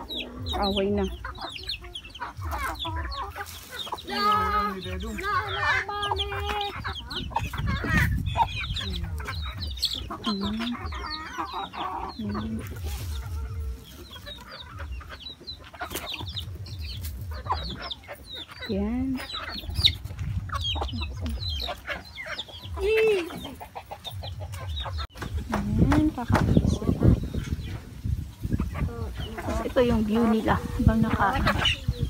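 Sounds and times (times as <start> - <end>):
chickens clucking: 0.0 - 32.0
chicks peeping: 0.0 - 32.0.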